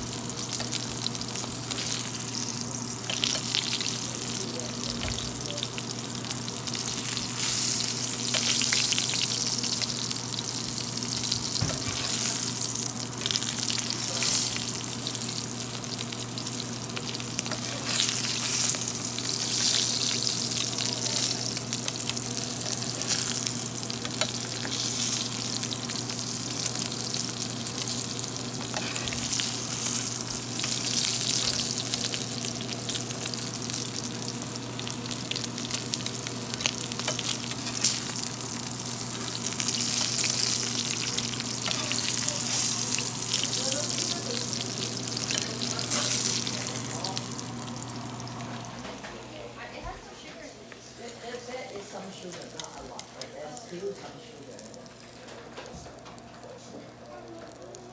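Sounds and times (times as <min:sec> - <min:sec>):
steak sizzling in fat: 0:00.0 - 0:48.9, 0:50.7 - 0:57.9.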